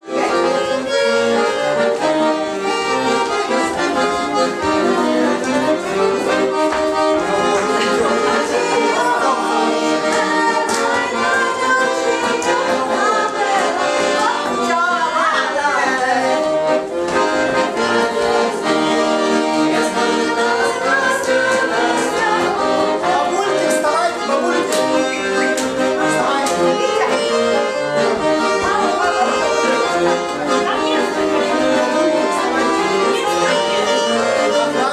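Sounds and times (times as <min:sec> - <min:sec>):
instrumental music: 0:00.0 - 0:34.9.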